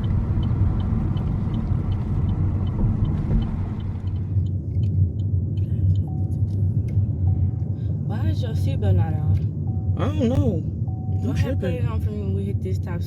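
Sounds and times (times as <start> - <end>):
car driving rumble from cabin: 0.0 - 13.0.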